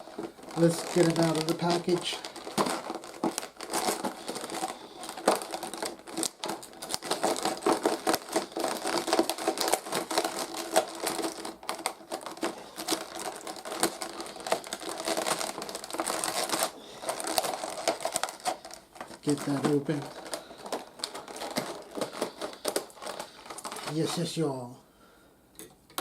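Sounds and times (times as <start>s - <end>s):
toy packaging being opened: 0.0s - 24.8s.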